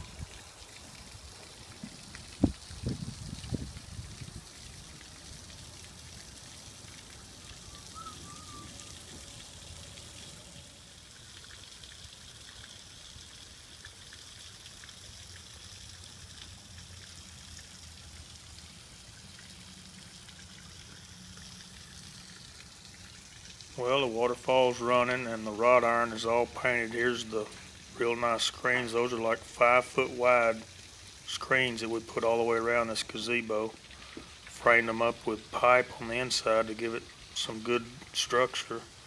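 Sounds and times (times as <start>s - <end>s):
waterfall splashing into pond: 0.0s - 39.0s.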